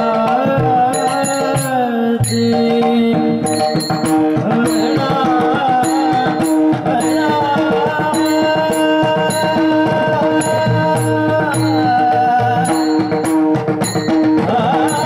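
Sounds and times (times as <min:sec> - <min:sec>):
drum strokes: 0:00.0 - 0:15.0
man singing devotional tune: 0:00.0 - 0:15.0
small hand cymbals: 0:00.9 - 0:15.0.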